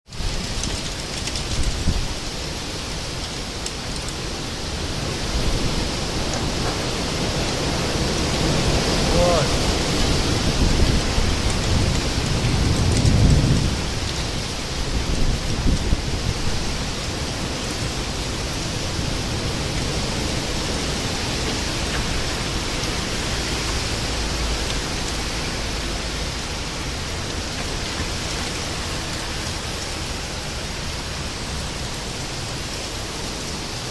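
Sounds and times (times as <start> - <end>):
heavy rain: 0.0 - 33.9
strong wind: 0.1 - 33.9.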